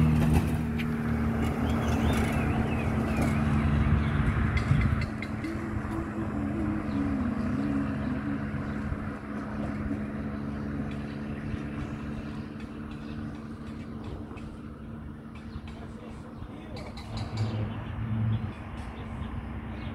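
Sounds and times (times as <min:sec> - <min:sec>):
road noise: 0:00.0 - 0:19.9
vehicle engine hum: 0:00.0 - 0:19.9.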